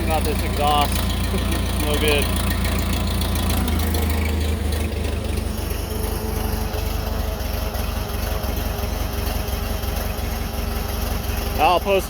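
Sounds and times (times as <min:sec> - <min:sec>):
loud engine exhaust idling: 0:00.0 - 0:12.0.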